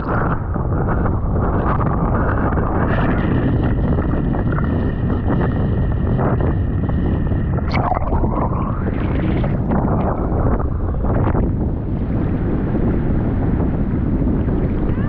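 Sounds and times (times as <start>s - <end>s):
sea noise: 0.0s - 15.0s
wind buffeting microphone: 0.0s - 15.0s.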